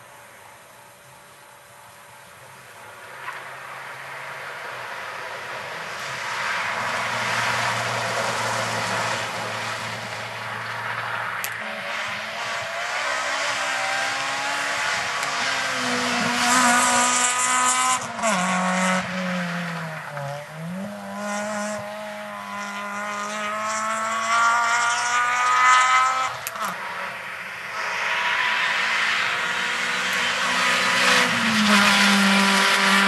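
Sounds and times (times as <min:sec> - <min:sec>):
rally car engine revving: 0:04.4 - 0:33.0.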